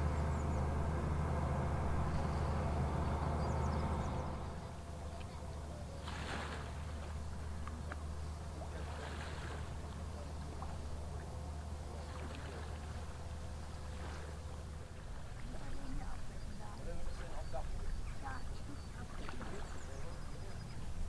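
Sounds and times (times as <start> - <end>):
ship diesel engine drone: 0.0 - 21.0.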